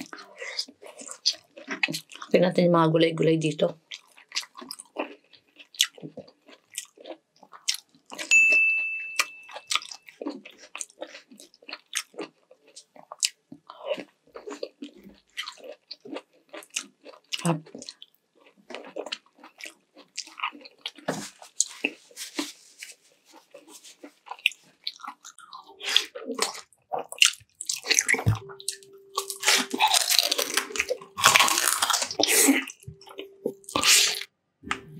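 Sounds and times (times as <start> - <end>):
wet chewing and crunching: 0.0 - 2.4, 3.4 - 8.3, 9.4 - 34.9.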